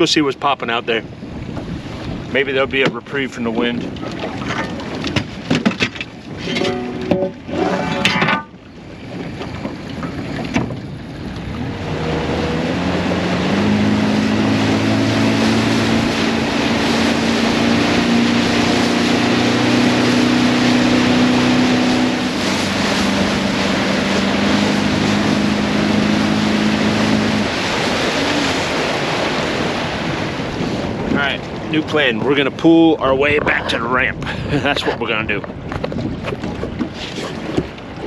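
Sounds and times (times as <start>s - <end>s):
boat motor: 0.0s - 38.0s
rushing water: 0.0s - 38.0s
wind noise: 0.0s - 38.0s.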